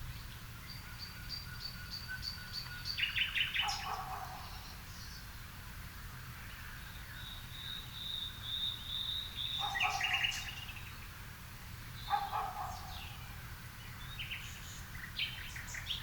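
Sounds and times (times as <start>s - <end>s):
birds singing and chirping: 0.0s - 16.0s.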